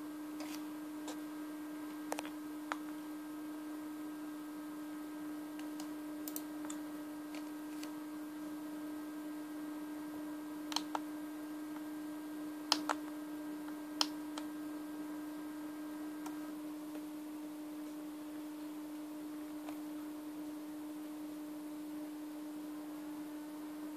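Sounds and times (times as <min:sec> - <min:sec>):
steady hum: 0:00.0 - 0:23.9.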